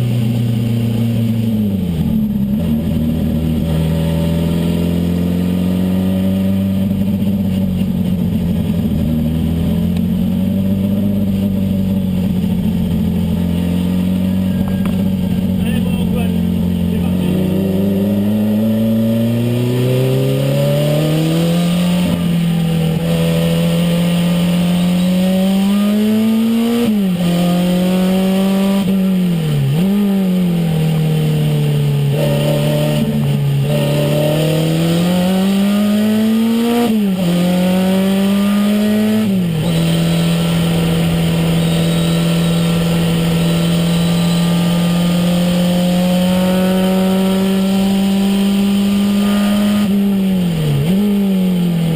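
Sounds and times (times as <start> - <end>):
car engine revving with gear changes: 0.0 - 51.9.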